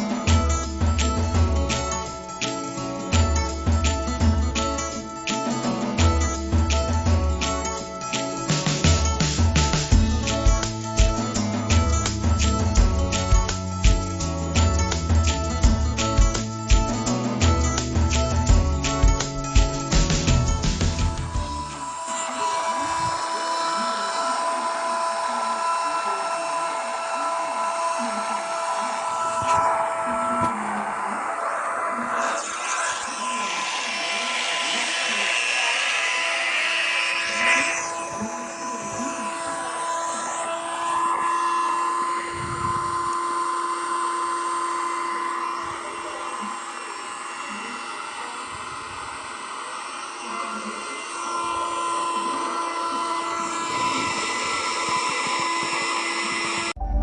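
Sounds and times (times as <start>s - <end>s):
machine motors whining: 0.0s - 56.8s.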